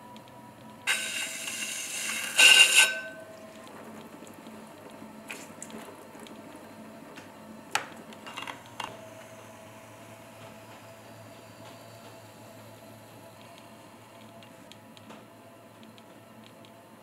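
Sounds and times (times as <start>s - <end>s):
pottery wheel humming: 0.0s - 17.0s.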